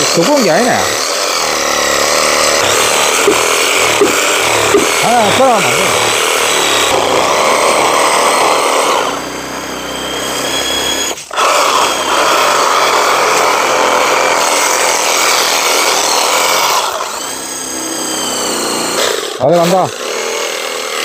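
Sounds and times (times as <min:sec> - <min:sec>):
cordless drill boring into wood: 0:00.0 - 0:21.0
reciprocating saw cutting wood: 0:00.0 - 0:21.0.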